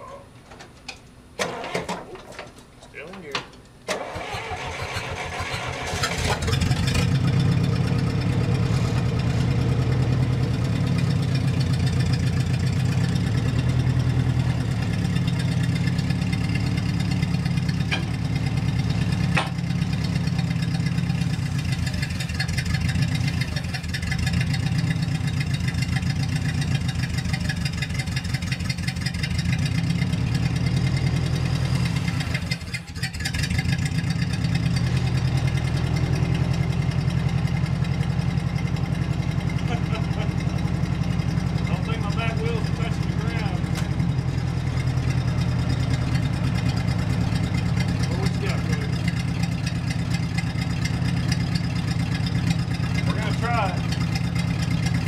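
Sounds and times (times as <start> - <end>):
forklift engine running: 0.0 - 3.2, 3.8 - 55.0.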